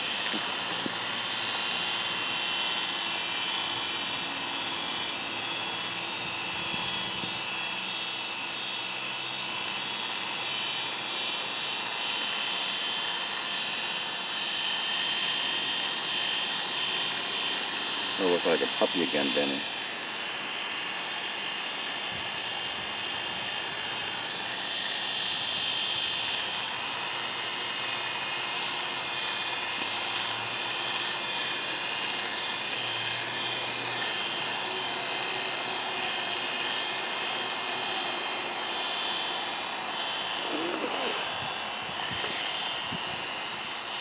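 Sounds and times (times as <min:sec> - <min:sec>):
electric clippers buzzing: 0:00.0 - 0:44.0.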